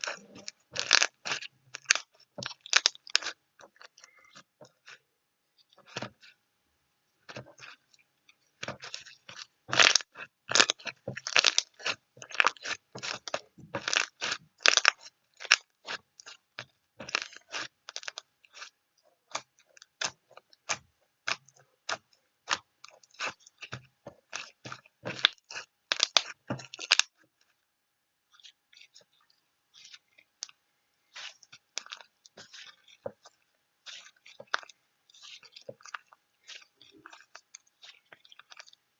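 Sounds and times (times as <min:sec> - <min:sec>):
irregular crunching: 0:00.0 - 0:05.0, 0:07.3 - 0:27.6, 0:28.3 - 0:38.9.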